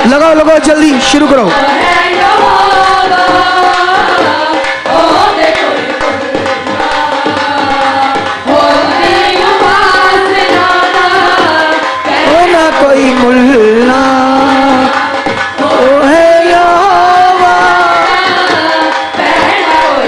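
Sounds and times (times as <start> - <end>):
hand drum: 1.3 - 20.0
women singing worship song: 1.4 - 20.0.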